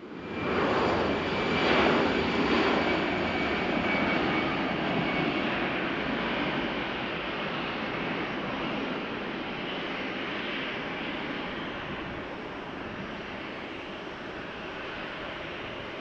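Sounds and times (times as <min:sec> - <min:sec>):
jet engines rushing and whining: 0:00.0 - 0:16.0.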